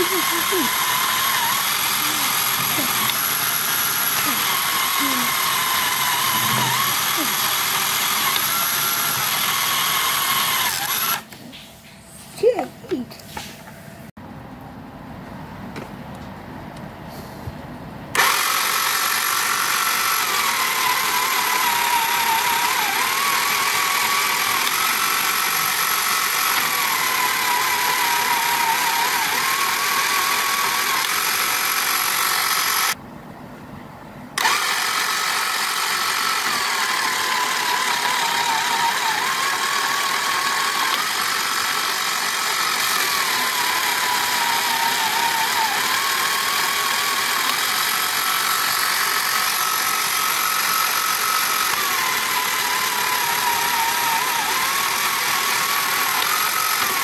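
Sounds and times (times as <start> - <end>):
toy motor and gears whirring: 0.0 - 11.8, 18.1 - 33.0, 34.4 - 57.0.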